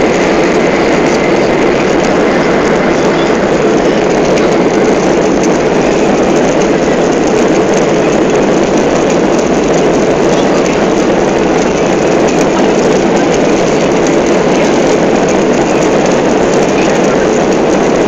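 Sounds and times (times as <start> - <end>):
jet engine roar in cabin: 0.0 - 18.0.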